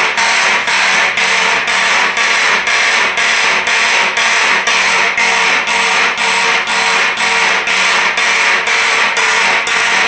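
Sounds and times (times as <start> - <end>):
raspy fire alarm horns: 0.0 - 10.0.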